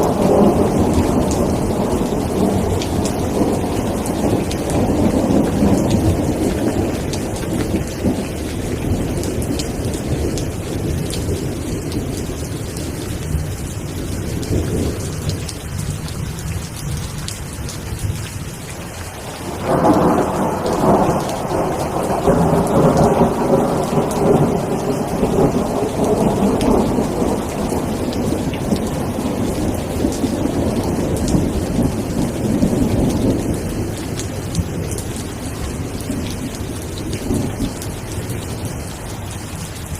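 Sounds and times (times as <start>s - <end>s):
rumbling thunder: 0.0s - 15.9s, 19.2s - 38.7s
steady rain: 0.0s - 39.9s.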